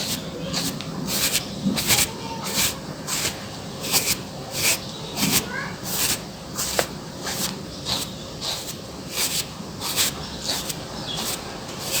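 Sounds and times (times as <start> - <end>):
comb brushing through hair: 0.0 - 12.0.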